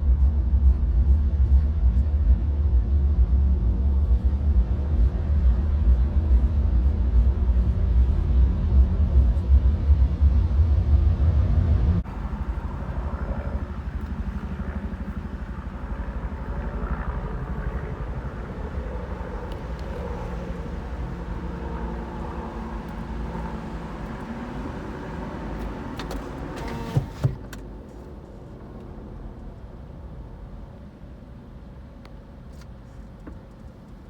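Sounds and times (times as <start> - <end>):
vehicle engine running: 0.0 - 27.5.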